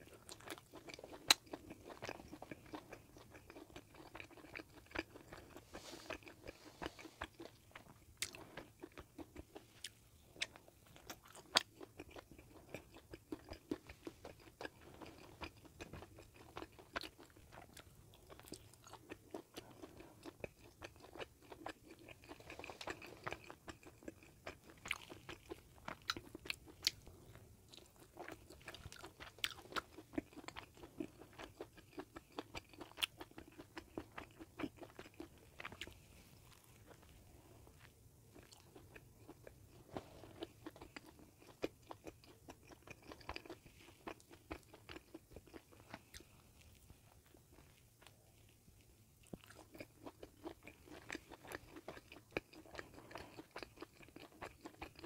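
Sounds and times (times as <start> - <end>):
chewing and biting sandwich: 0.0 - 55.0.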